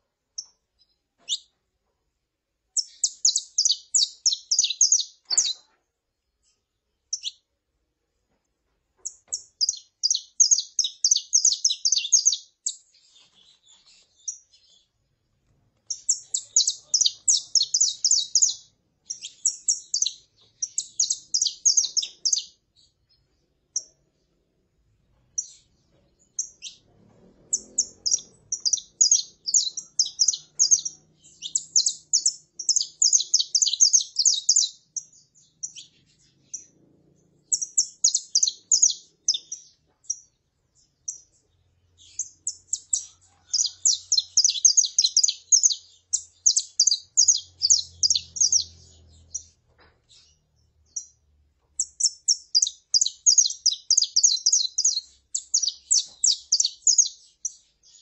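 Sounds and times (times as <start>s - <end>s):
finches chirping: 2.8s - 5.8s, 7.0s - 7.4s, 9.0s - 15.0s, 15.8s - 24.0s, 25.3s - 26.8s, 27.4s - 51.2s, 51.8s - 58.0s.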